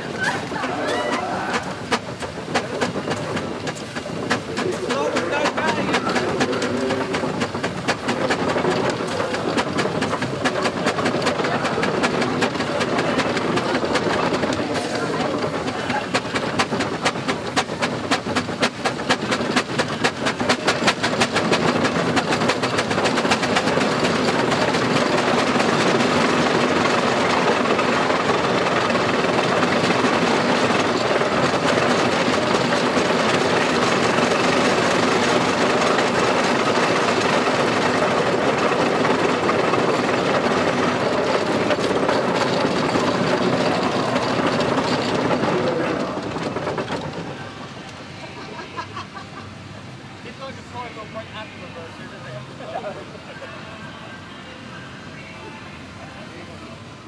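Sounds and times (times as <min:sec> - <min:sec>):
steam engine exhaust beating: 0:00.0 - 0:48.4.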